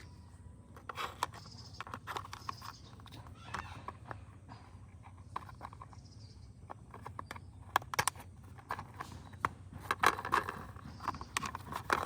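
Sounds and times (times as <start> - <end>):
plastic toy parts clicking: 0.7 - 12.0.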